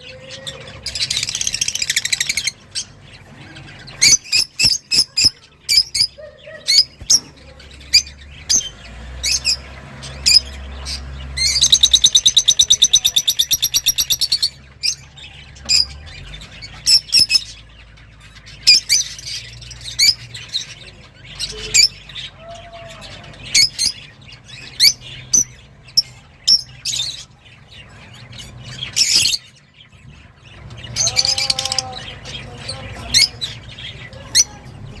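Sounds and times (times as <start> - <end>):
songbird chirping and trilling: 0.0 - 35.0.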